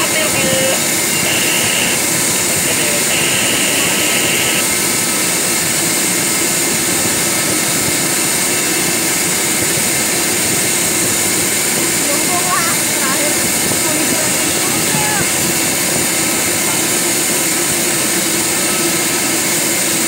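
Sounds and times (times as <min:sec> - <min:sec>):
jet turbine rushing hiss: 0:00.0 - 0:20.0.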